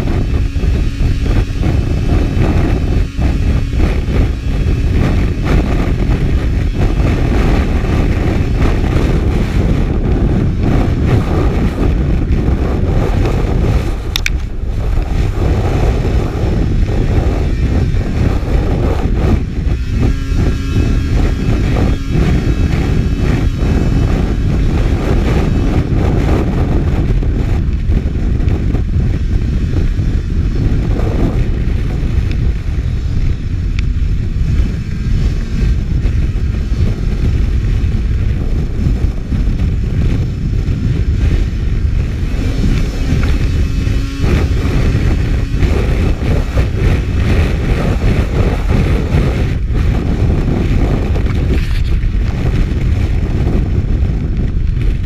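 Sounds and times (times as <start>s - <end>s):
snowmobile engine drone: 0.0s - 55.0s.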